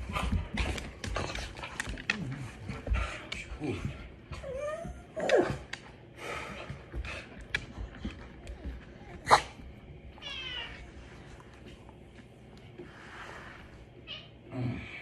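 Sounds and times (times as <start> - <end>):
dogs scuffling and clicking: 0.0 - 12.9.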